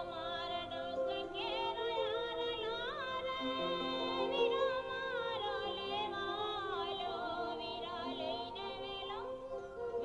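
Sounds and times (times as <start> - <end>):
wavering gliding melody: 0.0 - 10.0.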